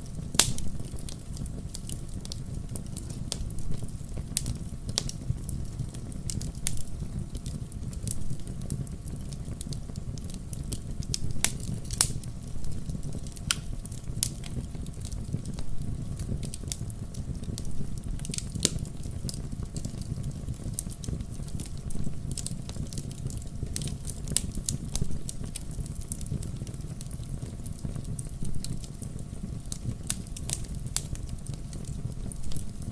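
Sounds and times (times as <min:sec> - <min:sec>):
fire crackling and popping: 0:00.0 - 0:32.9
fire rumbling: 0:00.0 - 0:32.9.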